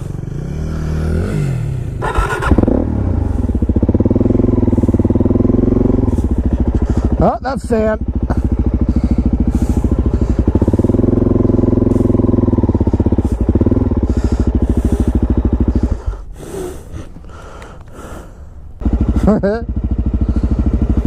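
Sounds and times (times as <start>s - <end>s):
motorcycle engine under throttle: 0.0s - 16.4s, 17.1s - 21.0s.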